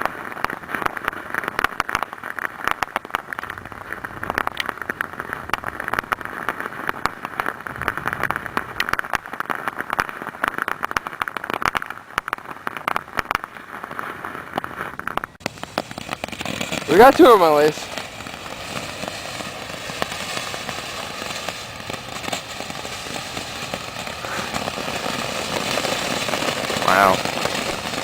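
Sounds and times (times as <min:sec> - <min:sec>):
fireworks hissing and crackling: 0:00.0 - 0:28.0.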